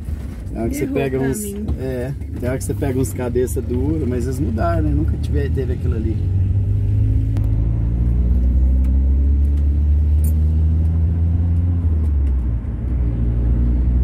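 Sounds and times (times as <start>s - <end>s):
van engine running: 0.0s - 13.1s
low road rumble: 0.0s - 14.0s.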